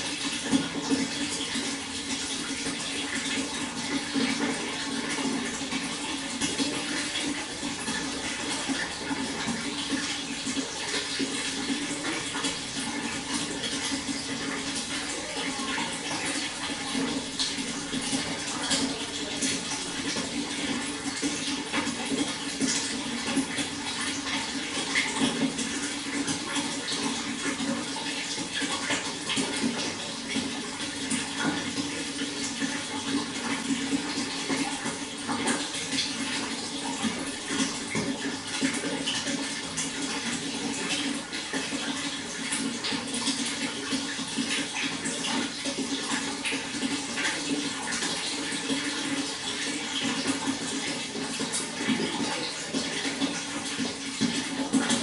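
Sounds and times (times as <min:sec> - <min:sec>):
flowing water splashing: 0:00.0 - 0:55.0.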